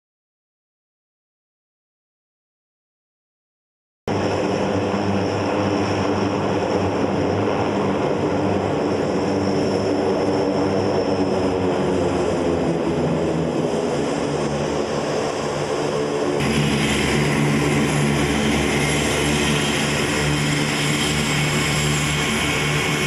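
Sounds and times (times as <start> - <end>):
high turbine whine: 4.1 - 23.0
propeller drone: 4.1 - 23.0.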